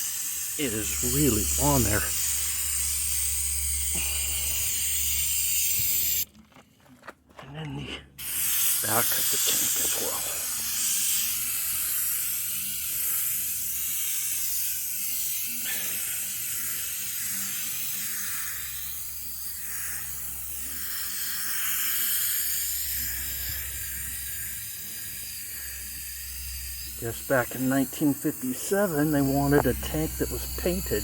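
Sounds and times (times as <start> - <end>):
aerosol can spraying: 0.0 - 6.3, 8.2 - 31.0.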